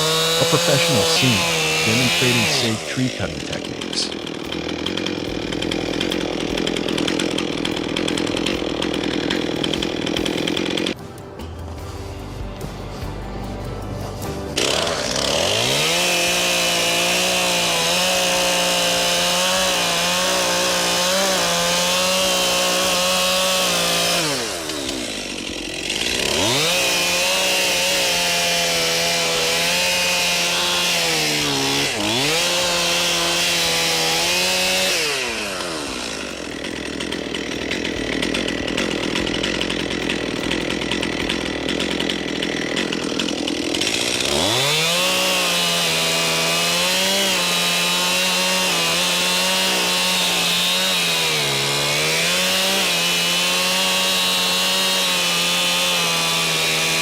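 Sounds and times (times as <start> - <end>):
chainsaw cutting wood: 0.0 - 11.2, 14.0 - 57.0.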